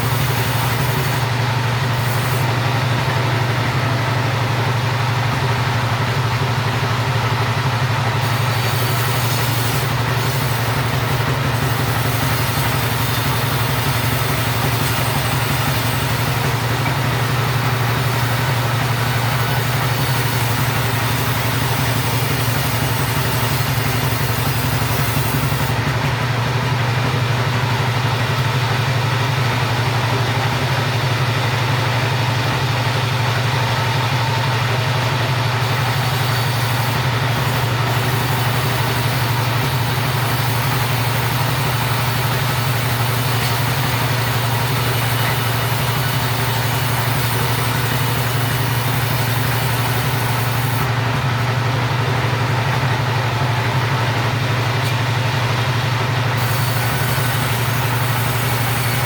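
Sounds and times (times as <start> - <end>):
chainsaw engine running: 0.0 - 59.0.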